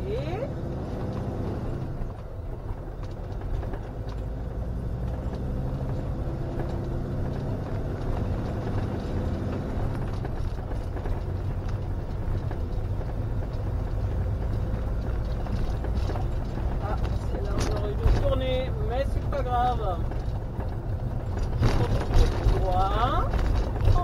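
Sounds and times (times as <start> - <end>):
tyres on road: 0.0 - 24.0
van engine running: 0.0 - 24.0.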